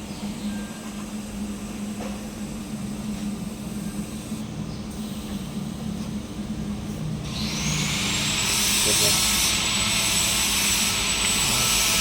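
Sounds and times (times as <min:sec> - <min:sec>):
machine hum: 0:01.1 - 0:12.0.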